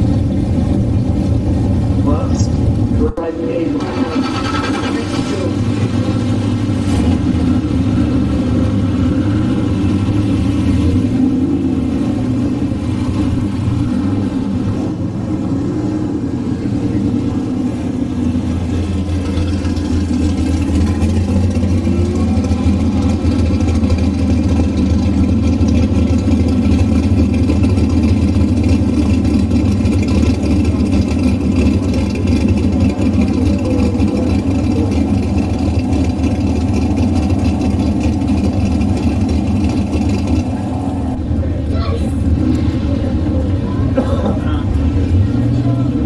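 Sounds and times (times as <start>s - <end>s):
drag car engines idling: 0.0s - 46.0s.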